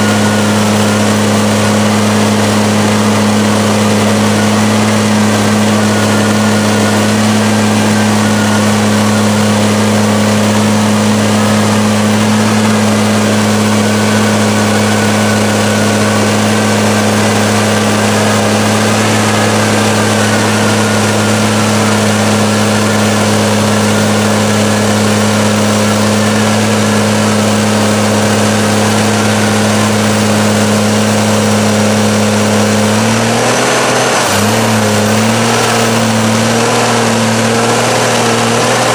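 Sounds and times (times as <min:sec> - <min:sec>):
faint wavering whine: 0:00.0 - 0:32.7
truck engine droning: 0:00.0 - 0:38.9.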